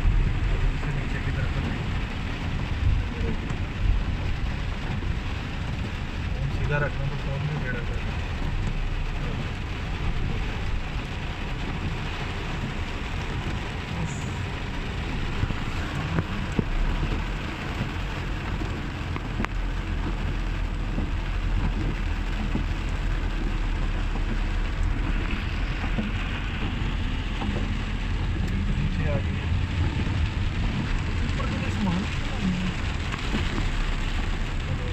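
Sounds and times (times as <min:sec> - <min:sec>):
heavy rain pouring: 0:00.0 - 0:34.9
low rumble: 0:00.0 - 0:34.9.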